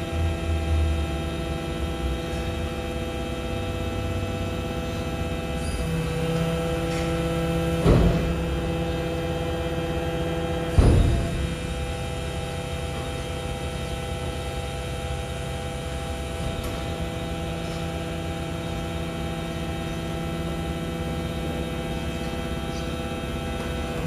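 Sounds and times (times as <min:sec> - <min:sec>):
electric truck hum: 0:00.0 - 0:24.0.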